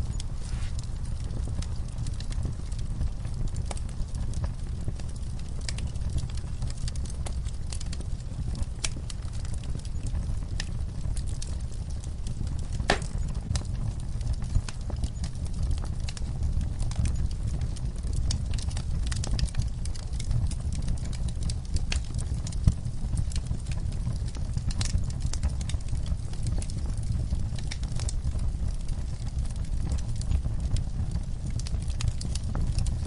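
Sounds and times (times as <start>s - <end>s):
fire crackling and popping: 0.0s - 33.0s
fire flames rumbling: 0.0s - 33.0s.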